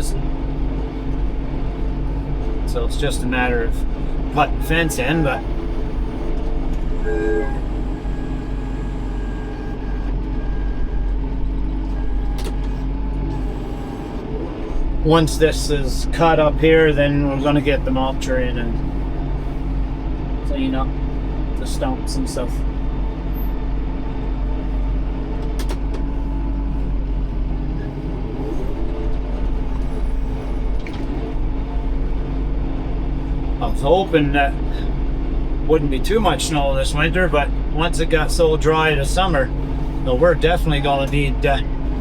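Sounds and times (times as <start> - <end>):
tractor engine idling: 0.0 - 42.0.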